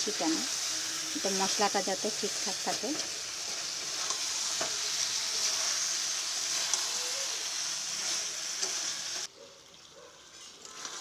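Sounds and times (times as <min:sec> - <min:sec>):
curry sizzling in a pan: 0:00.0 - 0:11.0
spatula scraping pan: 0:00.5 - 0:09.3, 0:10.3 - 0:11.0.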